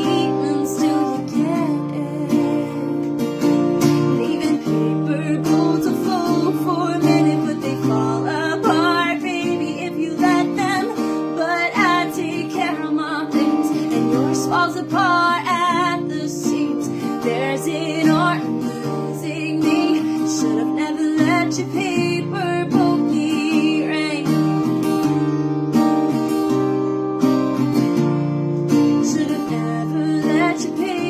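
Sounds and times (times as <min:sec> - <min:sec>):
woman singing: 0:00.0 - 0:24.7, 0:28.8 - 0:31.0
acoustic guitar strumming: 0:00.0 - 0:31.0.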